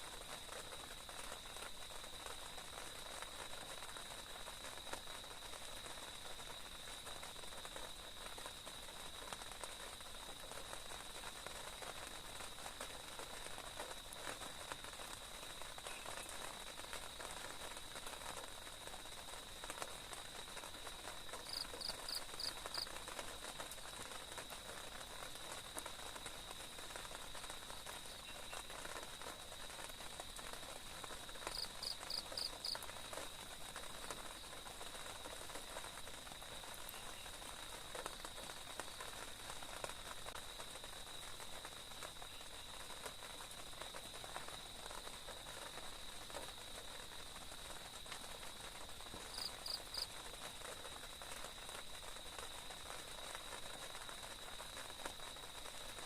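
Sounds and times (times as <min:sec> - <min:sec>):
faint background hiss: 0:00.0 - 0:56.0.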